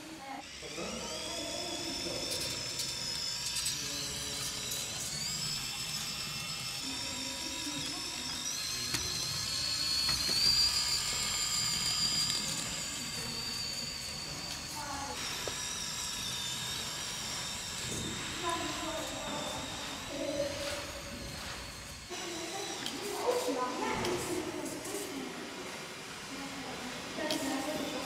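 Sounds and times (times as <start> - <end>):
small electric motor whining: 0.0 - 28.0.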